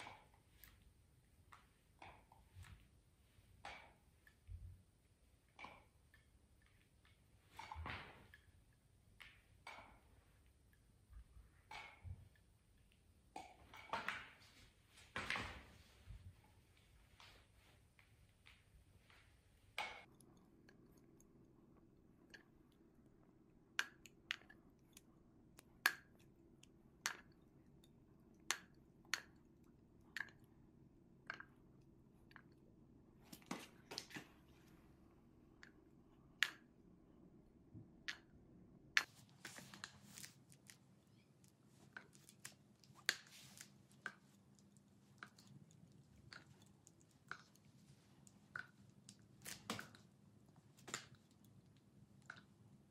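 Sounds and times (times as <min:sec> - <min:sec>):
paint dripping: 0:00.0 - 0:14.6, 0:16.6 - 0:52.9.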